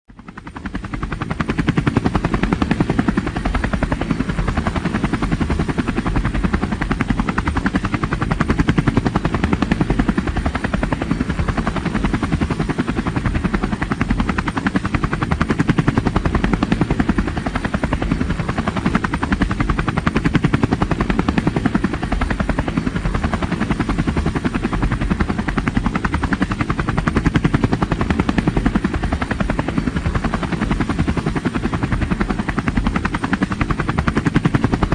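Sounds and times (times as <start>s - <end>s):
helicopter rotor chopping: 0.1s - 34.9s.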